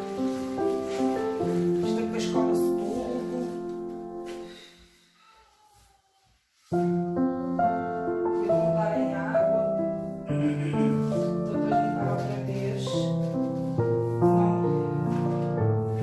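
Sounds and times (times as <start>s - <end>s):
gentle piano music: 0.0s - 5.0s, 6.7s - 16.0s.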